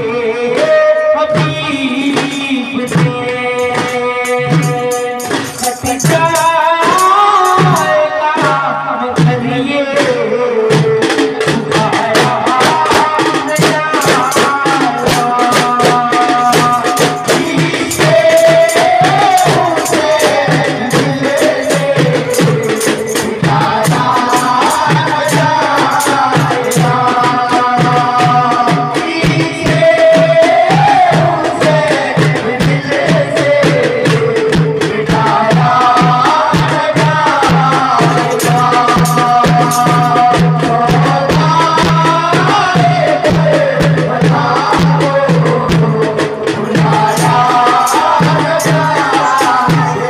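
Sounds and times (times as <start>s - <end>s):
frame drums beating: 0.0s - 50.0s
person singing into a microphone: 0.0s - 50.0s.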